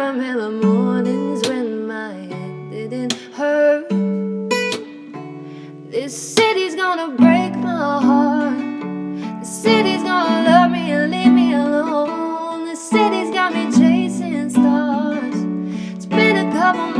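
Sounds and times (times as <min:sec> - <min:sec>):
woman singing: 0:00.0 - 0:05.1, 0:05.8 - 0:16.9
acoustic guitar strummed: 0:02.6 - 0:16.9.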